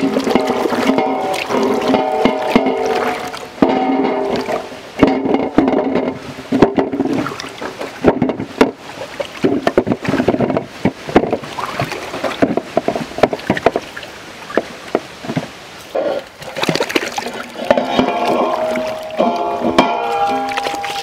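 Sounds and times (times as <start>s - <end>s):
water splashing in metal basin: 0.0s - 15.0s, 16.4s - 21.0s.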